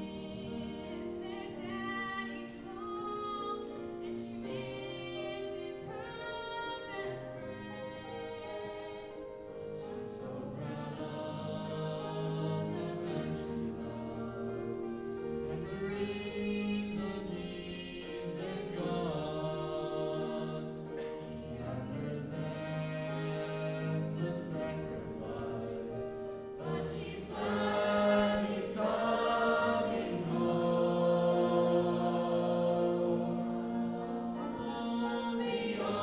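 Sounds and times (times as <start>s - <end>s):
mixed choir singing: 0.0s - 36.0s
piano accompaniment: 0.0s - 36.0s.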